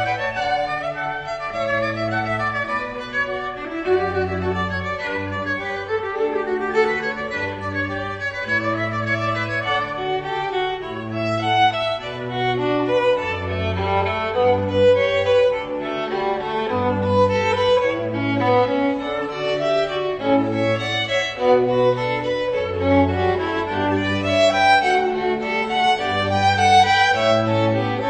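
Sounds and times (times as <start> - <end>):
held low string notes: 0.0 - 28.0
slow violin melody: 0.0 - 28.0.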